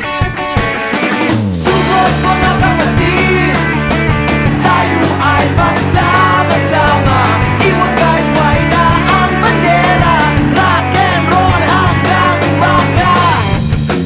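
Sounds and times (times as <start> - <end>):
rock music: 0.0 - 14.0
sliding bass note: 1.4 - 14.0.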